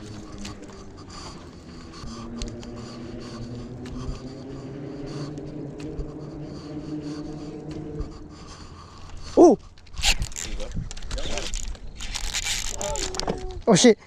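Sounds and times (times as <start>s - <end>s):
engine humming: 0.0s - 13.7s.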